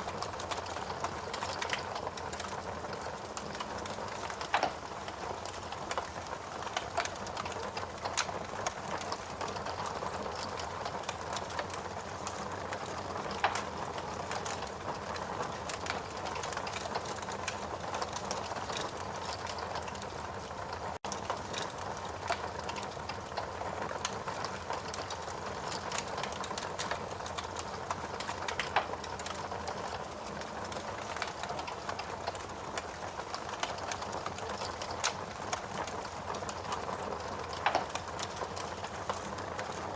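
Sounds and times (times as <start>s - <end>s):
logs crackling and popping: 0.0s - 39.9s
flames rushing: 0.1s - 39.9s.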